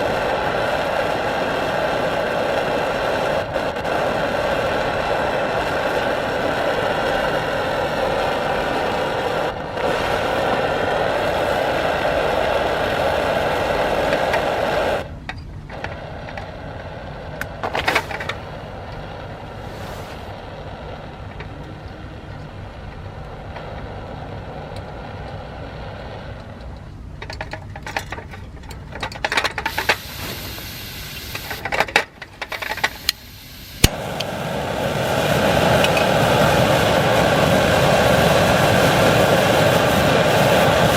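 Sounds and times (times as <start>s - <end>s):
camp stove burner roaring: 0.0s - 40.9s
stove hissing: 0.0s - 40.9s.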